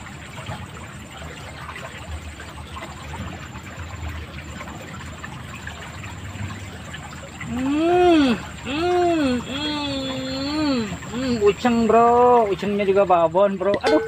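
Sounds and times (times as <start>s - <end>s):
water flowing along ditch: 0.0s - 14.0s.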